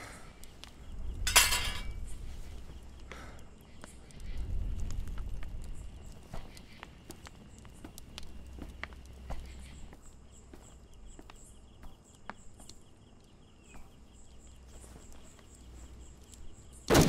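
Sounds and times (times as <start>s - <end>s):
faint clicks: 0.0s - 1.2s, 2.1s - 16.8s
crickets chirping: 0.0s - 17.0s.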